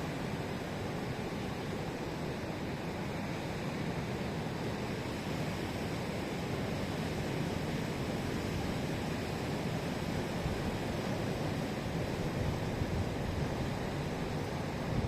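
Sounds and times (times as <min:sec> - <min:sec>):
sea surf washing on shore: 0:00.0 - 0:15.0.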